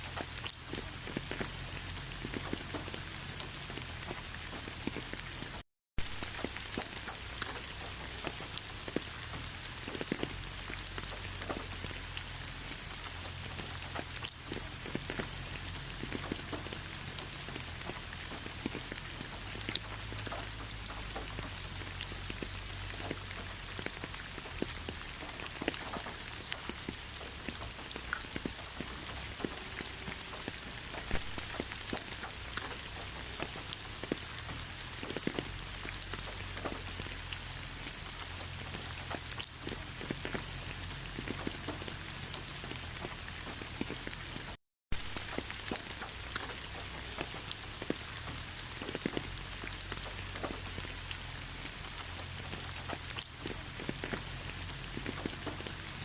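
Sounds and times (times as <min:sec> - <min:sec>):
rain falling: 0:00.0 - 0:56.0
raindrops ticking close by: 0:00.0 - 0:56.0.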